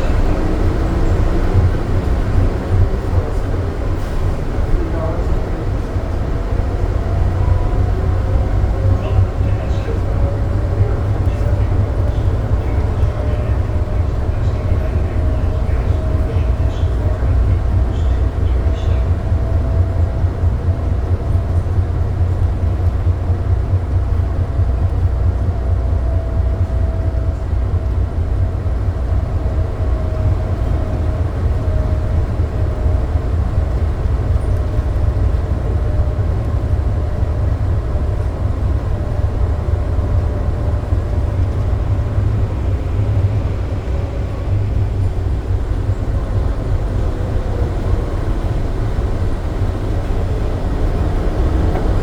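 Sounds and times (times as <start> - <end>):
train car rumble: 0.0 - 52.0.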